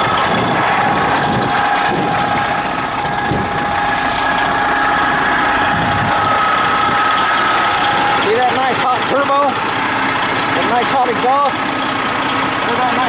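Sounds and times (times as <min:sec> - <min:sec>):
diesel truck engine running: 0:00.0 - 0:13.0
high whine: 0:00.0 - 0:13.0.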